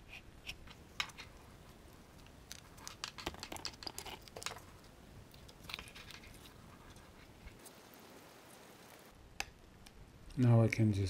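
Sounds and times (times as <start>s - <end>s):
small clicks and rustles: 0.4s - 10.4s.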